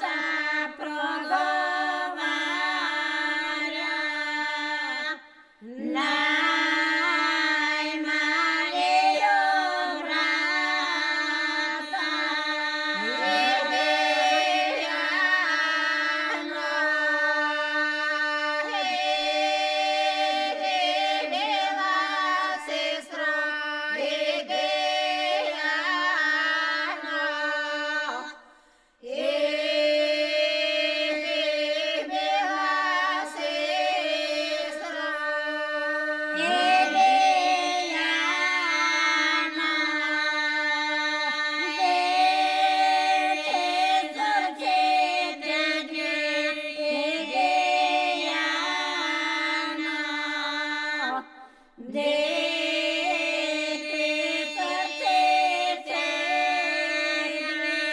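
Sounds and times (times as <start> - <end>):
women singing a cappella: 0.0 - 57.9.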